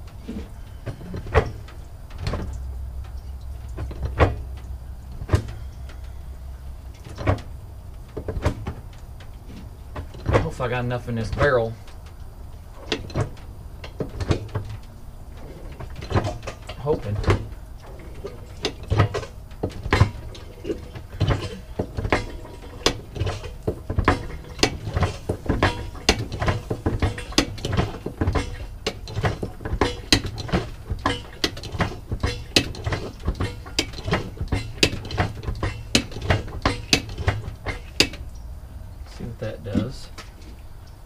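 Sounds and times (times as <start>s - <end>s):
hand pump clicking and clanking: 0.0s - 38.4s.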